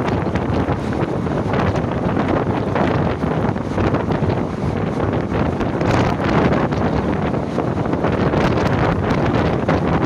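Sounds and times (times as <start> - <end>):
train rumbling on track: 0.0 - 10.0
wind buffeting microphone: 0.0 - 10.0.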